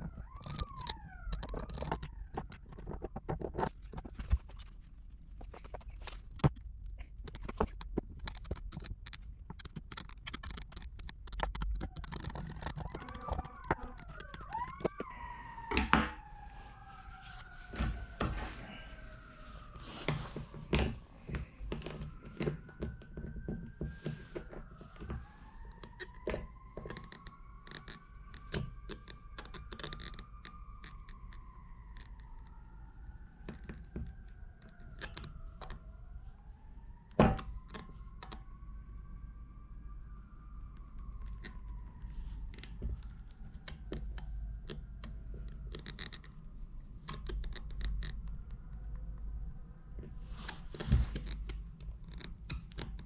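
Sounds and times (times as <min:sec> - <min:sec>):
sirens wailing: 0:00.0 - 0:04.6, 0:10.8 - 0:53.0.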